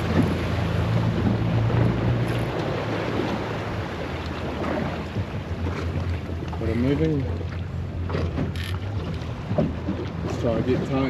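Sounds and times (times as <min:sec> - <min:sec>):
boat motor humming: 0:00.0 - 0:11.0
water washing: 0:00.0 - 0:11.0.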